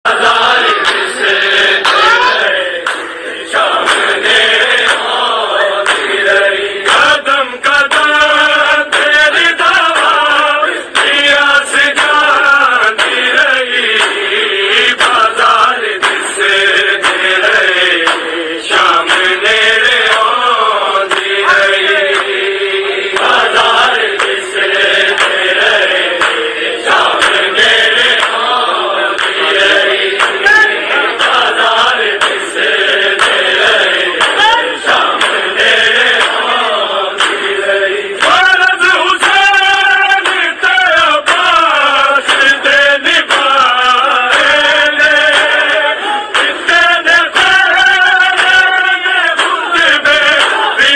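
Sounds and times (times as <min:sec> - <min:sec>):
person chanting a lament: 0:00.0 - 0:50.9.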